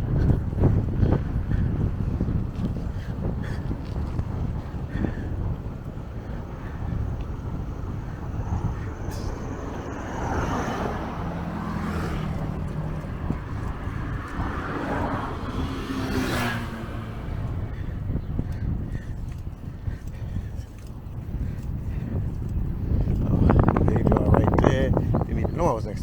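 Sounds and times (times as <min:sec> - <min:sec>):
motor vehicle engine hum: 0:00.0 - 0:26.0
passing vehicle rush: 0:00.0 - 0:26.0
street traffic: 0:00.0 - 0:26.0
wind rumbling on microphone: 0:00.0 - 0:26.0.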